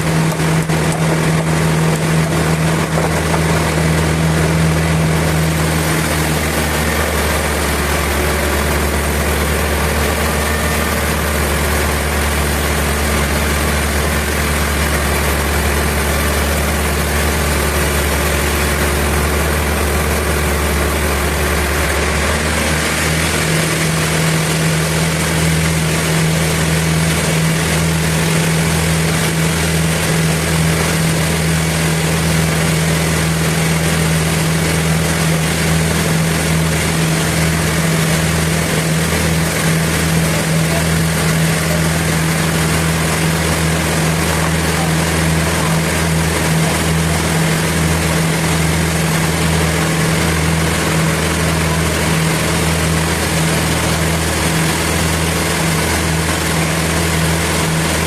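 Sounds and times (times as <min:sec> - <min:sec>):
low engine drone: 0:00.0 - 0:58.0
machinery rushing noise: 0:00.0 - 0:58.0.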